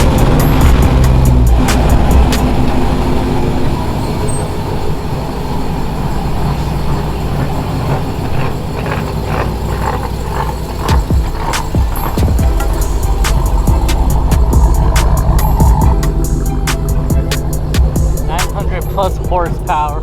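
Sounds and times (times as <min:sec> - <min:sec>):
traffic noise: 0:00.0 - 0:20.0
vehicle engine rumbling: 0:00.0 - 0:20.0.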